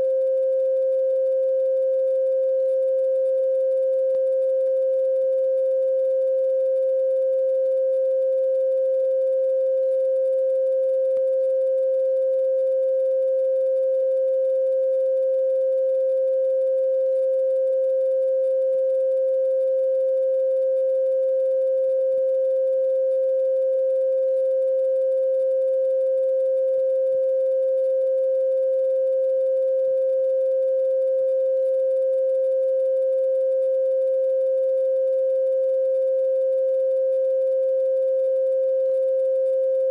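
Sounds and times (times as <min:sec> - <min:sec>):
electronic pure tone: 0:00.0 - 0:39.9.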